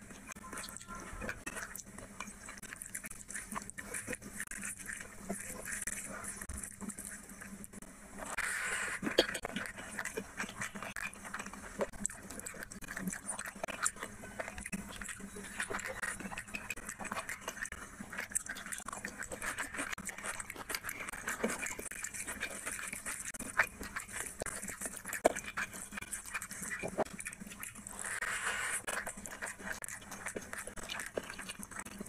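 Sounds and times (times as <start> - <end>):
fingers working through rice: 0.0 - 32.0
wet chewing and lip-smacking: 0.0 - 32.0.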